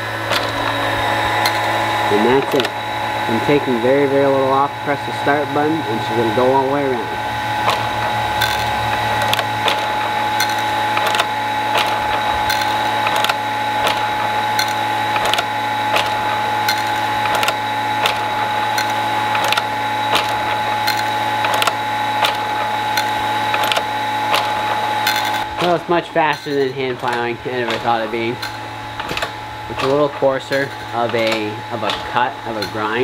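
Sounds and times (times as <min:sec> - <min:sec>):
grinder whine: 0:00.0 - 0:33.0
machine clacking: 0:00.0 - 0:33.0.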